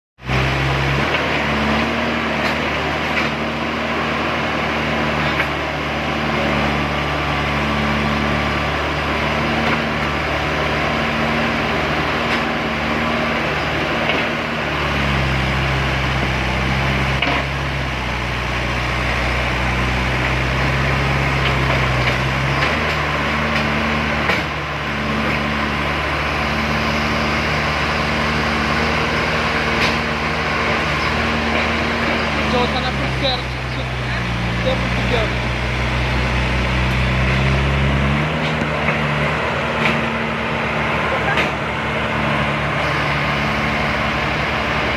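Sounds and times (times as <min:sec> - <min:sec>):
diesel engines running under load: 0:00.2 - 0:44.9.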